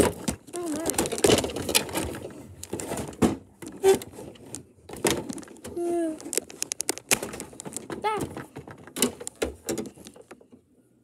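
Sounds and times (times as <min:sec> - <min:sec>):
plastic knocks and clicks: 0:00.0 - 0:10.7.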